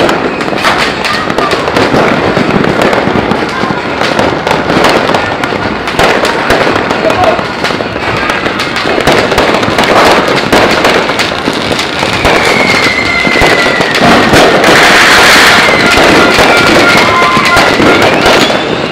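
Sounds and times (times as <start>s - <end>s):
firecrackers crackling: 0.0s - 18.9s.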